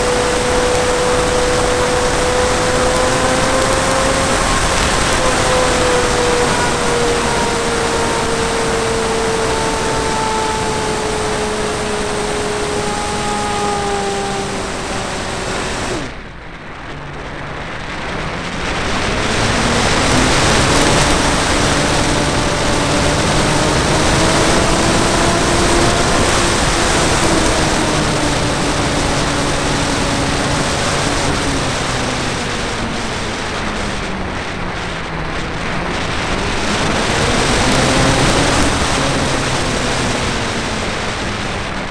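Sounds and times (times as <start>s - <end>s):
motor and propeller whine: 0.0s - 41.9s.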